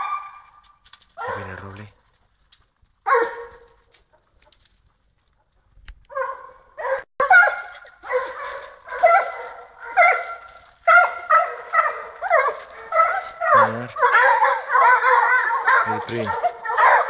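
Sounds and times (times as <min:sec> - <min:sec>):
hounds baying: 0:00.0 - 0:02.0, 0:03.0 - 0:04.6, 0:05.4 - 0:17.0.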